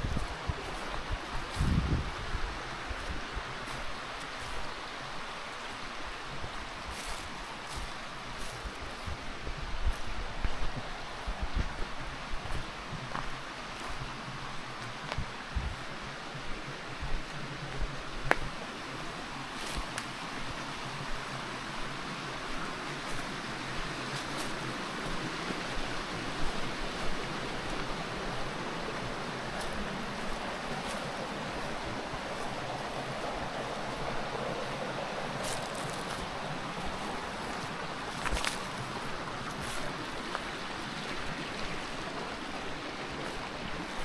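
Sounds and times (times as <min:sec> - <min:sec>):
flowing water rushing: 0:00.0 - 0:44.0.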